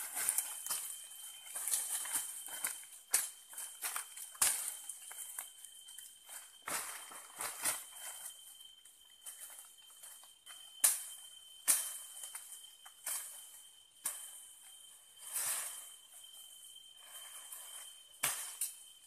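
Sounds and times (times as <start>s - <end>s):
brush and dry leaves rustling: 0.0s - 18.8s
high insect drone: 0.0s - 19.0s.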